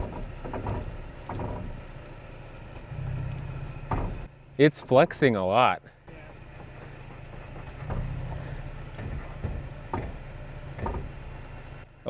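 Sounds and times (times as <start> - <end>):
tyres knocking and crunching: 0.0 - 5.4, 6.0 - 11.9
truck engine running low: 0.0 - 12.0.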